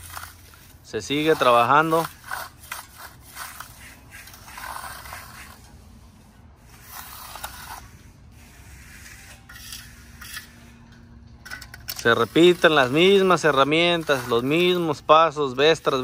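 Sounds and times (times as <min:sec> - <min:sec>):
trowel scraping concrete: 0:00.0 - 0:10.9, 0:11.5 - 0:16.0.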